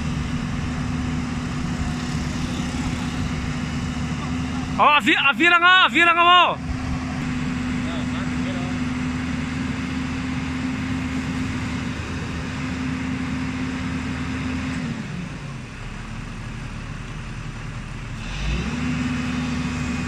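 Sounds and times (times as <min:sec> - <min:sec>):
excavator diesel engine revving: 0:00.0 - 0:20.0.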